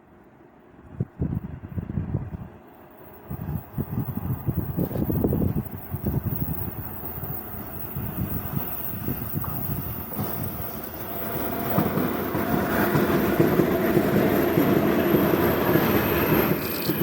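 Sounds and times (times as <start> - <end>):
train wheels clattering on rails: 2.9 - 17.0.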